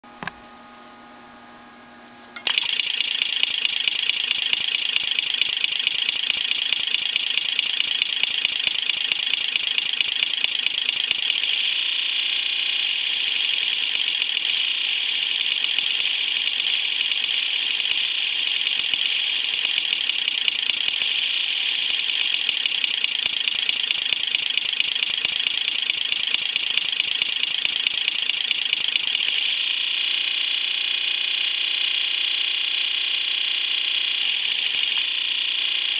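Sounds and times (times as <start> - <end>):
relays clicking rapidly: 2.4 - 29.9, 34.2 - 35.9.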